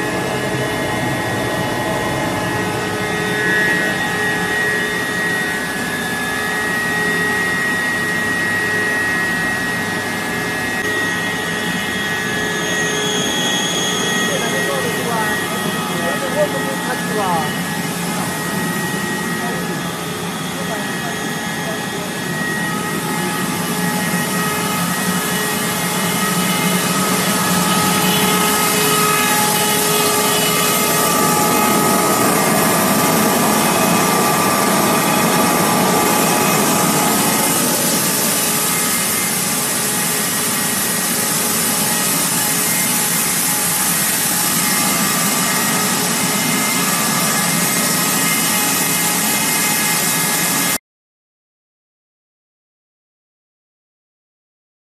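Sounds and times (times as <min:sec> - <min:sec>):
motors whining: 0:00.0 - 0:50.7
industrial machinery din: 0:00.0 - 0:50.8.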